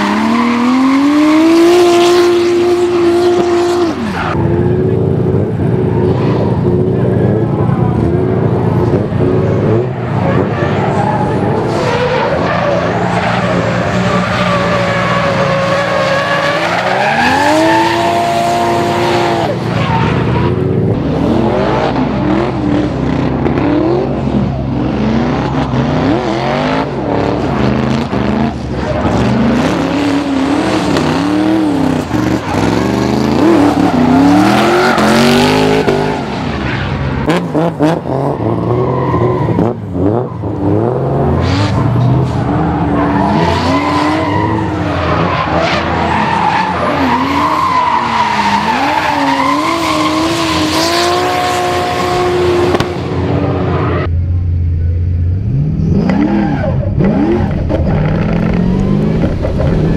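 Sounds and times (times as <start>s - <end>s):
tyres spinning on asphalt: 0.0s - 54.0s
car engine revving: 0.0s - 59.9s.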